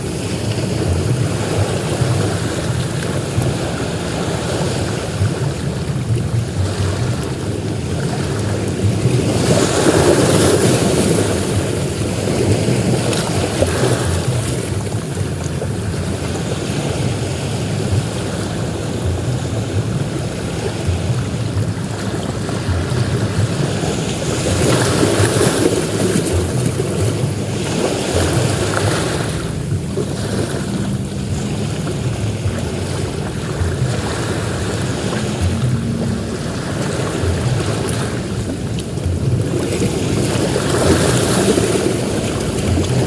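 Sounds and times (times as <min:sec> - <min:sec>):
sea waves breaking on beach: 0:00.0 - 0:43.0
wind buffeting microphone: 0:00.0 - 0:43.0.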